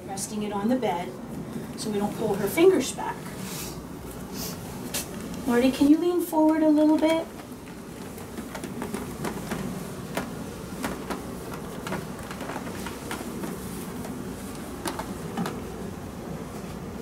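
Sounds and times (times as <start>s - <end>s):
steady low hum: 0.0s - 17.0s
cloth rustling: 2.0s - 16.9s.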